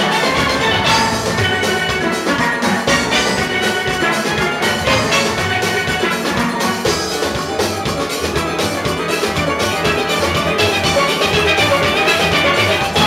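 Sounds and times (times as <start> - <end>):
steel band playing: 0.0 - 13.0.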